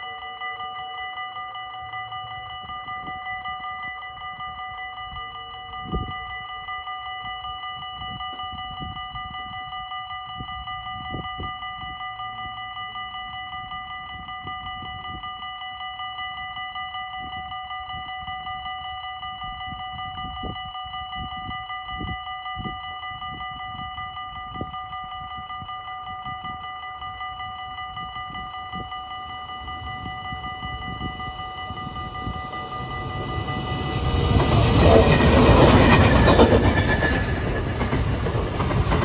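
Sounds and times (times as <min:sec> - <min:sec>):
level crossing warning bells: 0:00.0 - 0:39.0.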